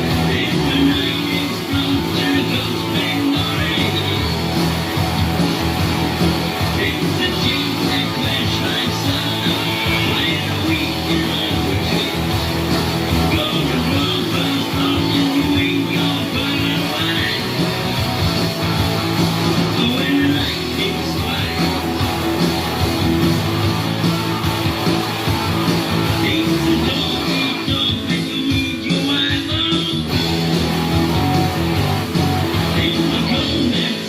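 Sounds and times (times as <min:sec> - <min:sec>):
rock music with guitar: 0:00.0 - 0:34.0.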